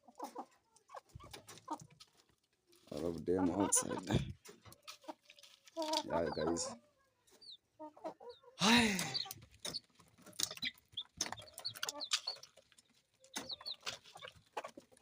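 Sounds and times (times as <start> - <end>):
chickens clucking: 0.0 - 15.0
chicks chirping: 2.8 - 15.0.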